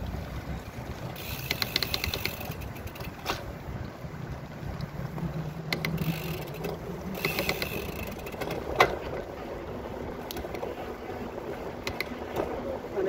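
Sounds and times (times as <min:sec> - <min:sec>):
bicycle rolling over paving: 0:00.0 - 0:13.0
bike clicks and rattles: 0:00.0 - 0:13.0
wind noise on microphone: 0:00.0 - 0:13.0.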